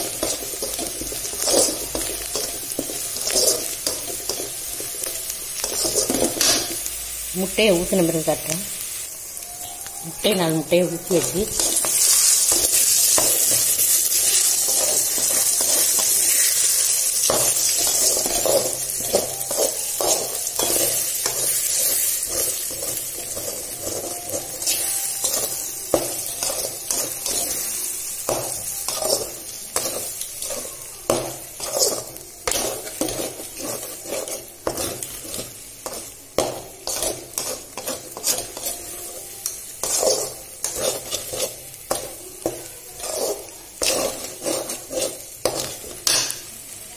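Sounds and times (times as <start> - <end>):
metal spatula scraping pan: 0.0 - 6.9, 10.4 - 46.4
eggs sizzling in hot oil: 0.0 - 46.9.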